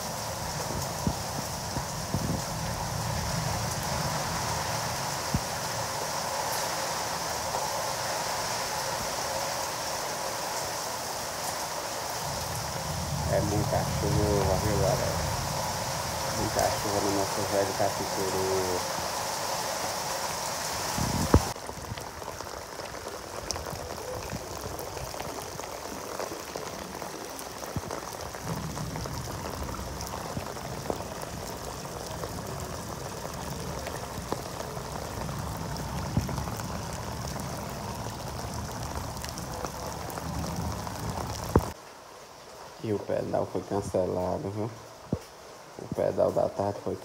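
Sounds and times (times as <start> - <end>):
heavy rain on roofs and pavement: 0.0 - 47.0.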